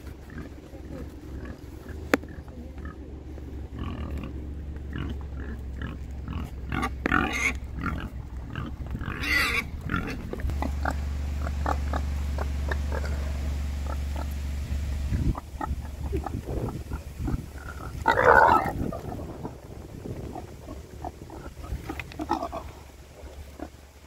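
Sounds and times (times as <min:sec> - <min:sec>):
steady low hum: 0:00.0 - 0:24.0
wild boars grunting: 0:00.0 - 0:24.0.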